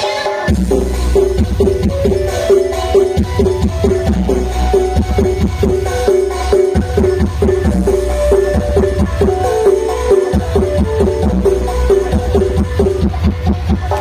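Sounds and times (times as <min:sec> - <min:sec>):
dance music with heavy bass: 0:00.0 - 0:14.0.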